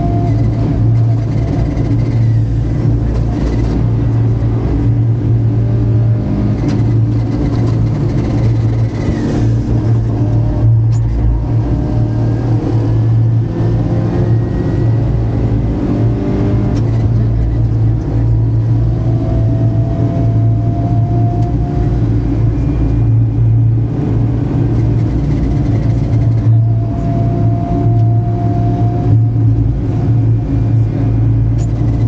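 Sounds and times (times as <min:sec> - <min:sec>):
car engine droning inside cabin: 0:00.0 - 0:32.0
road and tyre noise: 0:00.0 - 0:32.0.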